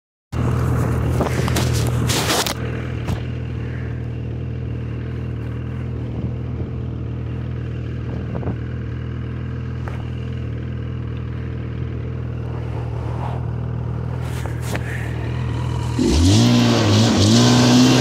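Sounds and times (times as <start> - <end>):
snowmobile engine idling: 0.4 - 18.0.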